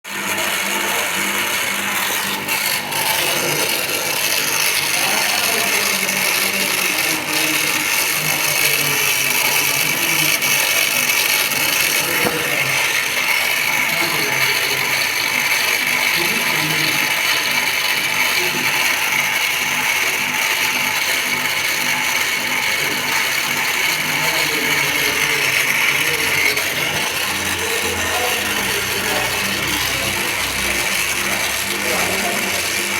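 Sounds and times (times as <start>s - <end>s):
vacuum pump running: 0.0s - 32.9s.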